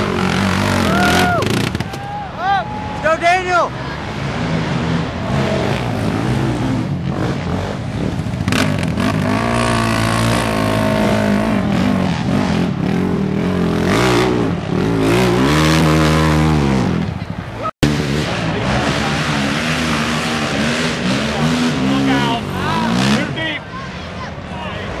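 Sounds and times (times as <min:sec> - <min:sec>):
quad engines revving: 0:00.0 - 0:02.1, 0:03.4 - 0:23.7.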